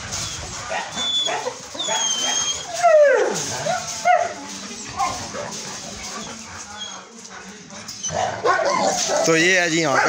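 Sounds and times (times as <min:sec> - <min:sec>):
dogs whining: 0:00.0 - 0:07.1, 0:07.9 - 0:09.3
dogs yelping: 0:00.0 - 0:07.1, 0:07.9 - 0:10.0.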